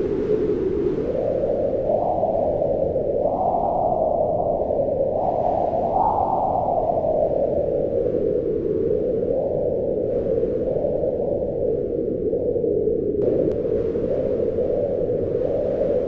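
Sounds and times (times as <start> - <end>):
howling wind in gusts: 0.0 - 16.0.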